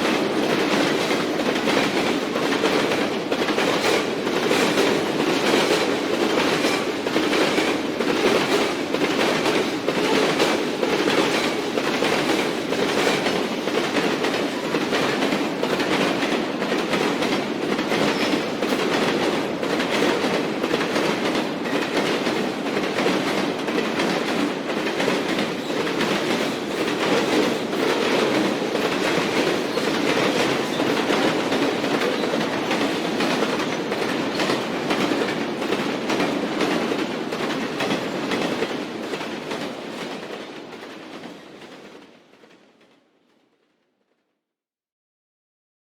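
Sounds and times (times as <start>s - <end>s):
rumble of train cars: 0.0s - 43.3s
train wheels clickety-clack: 0.0s - 43.7s.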